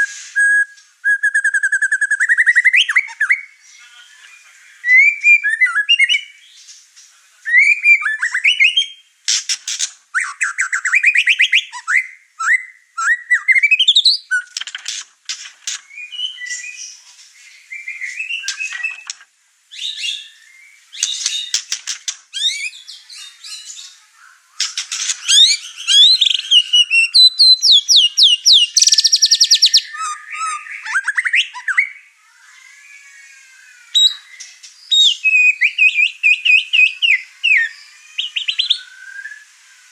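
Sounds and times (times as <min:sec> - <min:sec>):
songbird whistling and trilling: 0:00.0 - 0:03.6, 0:04.8 - 0:06.4, 0:07.5 - 0:09.0, 0:09.7 - 0:14.6, 0:15.9 - 0:24.0, 0:24.6 - 0:32.1, 0:33.7 - 0:39.9.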